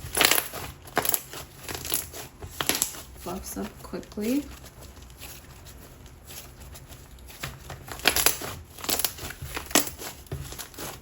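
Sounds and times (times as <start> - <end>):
slime crackling and popping: 0.0 - 11.0.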